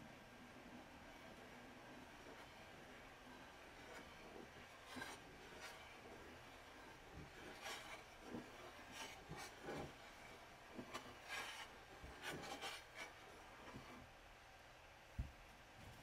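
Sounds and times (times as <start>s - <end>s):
tube scraping grains on glass: 1.1s - 14.0s.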